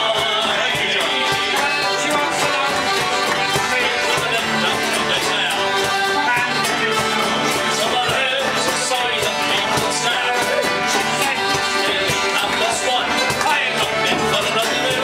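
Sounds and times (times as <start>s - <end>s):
accordion: 0.0s - 15.0s
acoustic guitar strumming: 0.0s - 15.0s
man singing: 0.0s - 15.0s.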